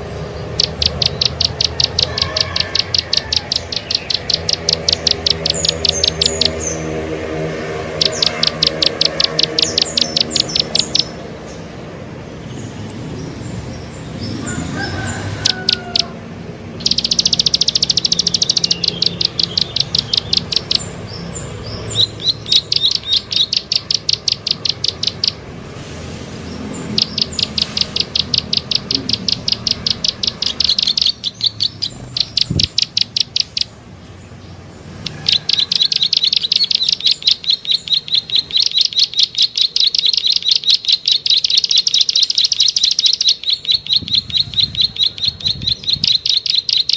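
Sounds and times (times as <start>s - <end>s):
bird clicking trill: 0.0s - 6.8s, 7.8s - 11.2s, 14.4s - 16.2s, 16.8s - 25.5s, 26.8s - 33.8s, 35.0s - 46.9s.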